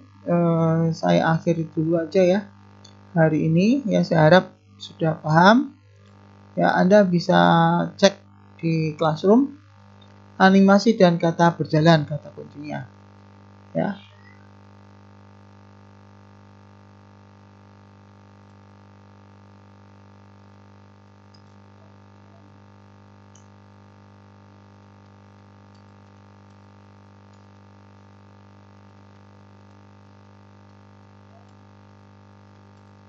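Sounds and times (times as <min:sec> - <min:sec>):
electrical mains hum: 0:00.0 - 0:33.0.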